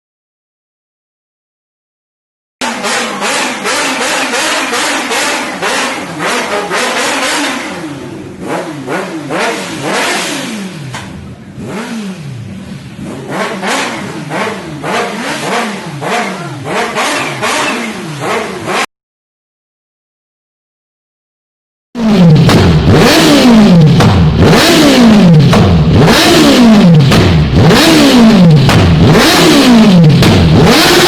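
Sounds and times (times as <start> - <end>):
motorcycle engine revving: 2.6 - 18.9, 22.0 - 31.0.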